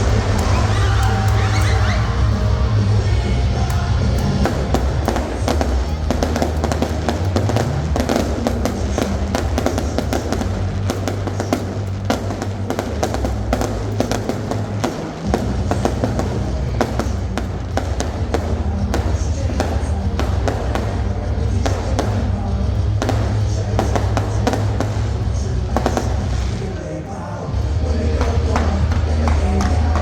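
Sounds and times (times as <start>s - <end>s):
fireworks bursting and crackling: 0.0s - 30.0s
music with low bass: 0.0s - 30.0s.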